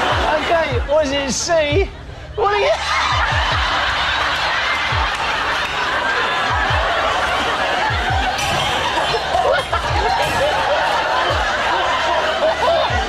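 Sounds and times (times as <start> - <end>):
people laughing together: 0.0 - 2.0, 2.6 - 13.0.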